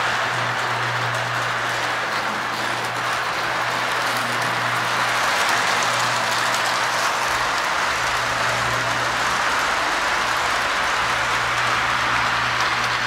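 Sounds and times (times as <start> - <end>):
toy train wheels rumbling: 0.0 - 13.0.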